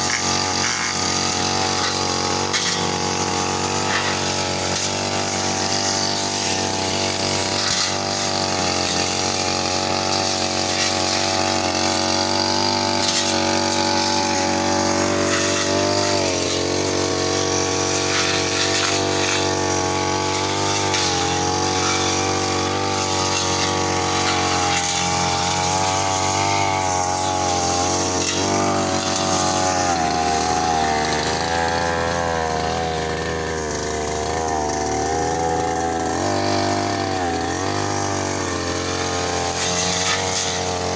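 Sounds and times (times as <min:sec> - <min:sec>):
brush cutter engine running: 0:00.0 - 0:40.9.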